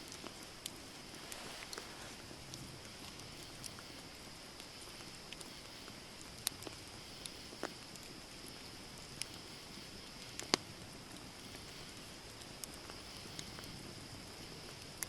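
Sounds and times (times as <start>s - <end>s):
campfire crackling and popping: 0.0s - 15.0s
steady high hiss: 0.0s - 15.0s.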